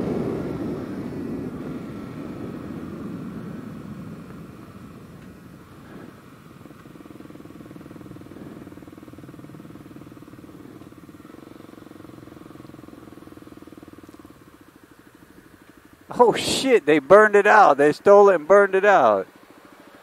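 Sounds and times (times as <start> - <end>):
motorcycle engine running at low revs: 0.0 - 20.0.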